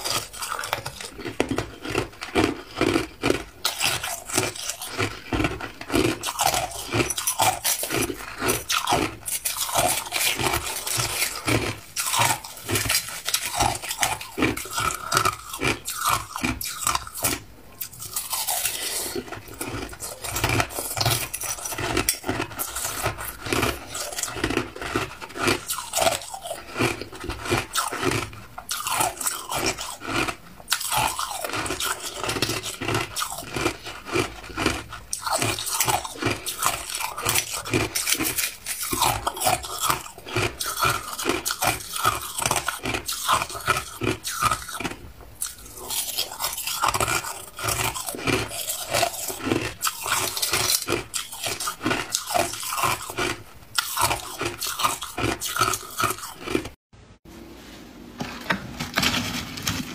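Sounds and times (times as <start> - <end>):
ice being chewed: 0.0 - 56.8.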